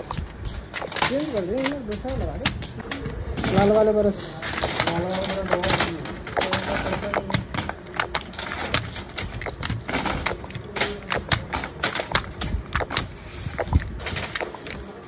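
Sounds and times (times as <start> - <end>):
small hard objects clicking: 0.0 - 15.0
steady background din: 0.0 - 15.0.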